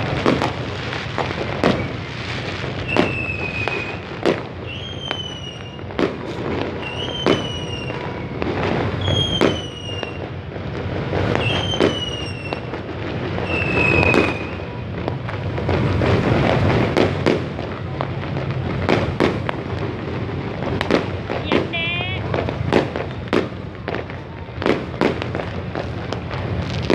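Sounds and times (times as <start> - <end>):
fireworks bangs: 0.0 - 26.9
fireworks whistles: 0.0 - 26.9.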